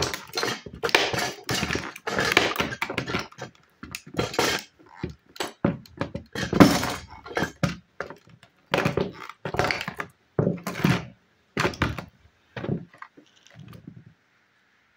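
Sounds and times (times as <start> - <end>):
cleats stomping on plastic toy: 0.0 - 13.9
plastic cracking and crunching: 0.0 - 13.9.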